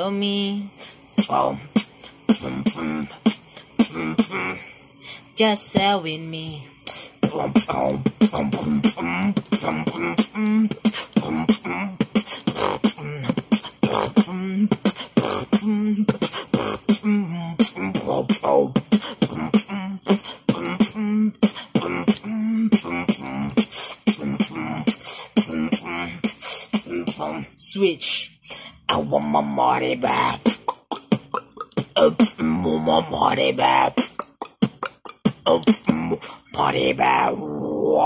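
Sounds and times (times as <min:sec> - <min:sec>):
beatboxing: 0:00.6 - 0:04.7, 0:06.8 - 0:27.5, 0:28.9 - 0:38.0.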